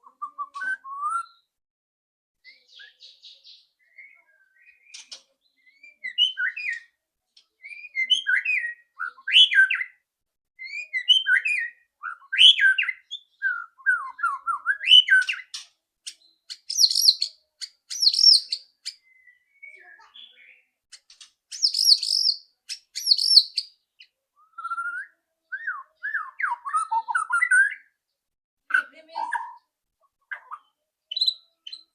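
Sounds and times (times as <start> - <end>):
bird whistling song: 0.0 - 1.5, 2.4 - 7.0, 7.6 - 10.0, 10.6 - 20.7, 21.5 - 28.0, 30.3 - 31.9.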